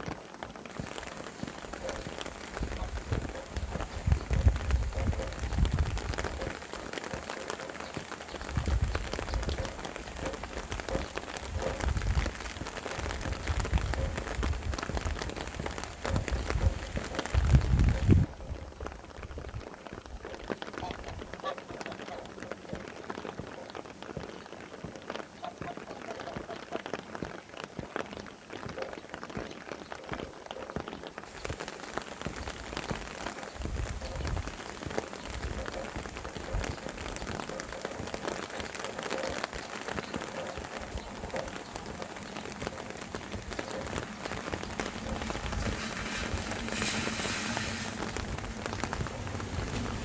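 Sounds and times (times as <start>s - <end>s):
wind rumbling on microphone: 0.0s - 23.7s, 31.3s - 50.0s
rain drops pattering: 0.0s - 50.0s.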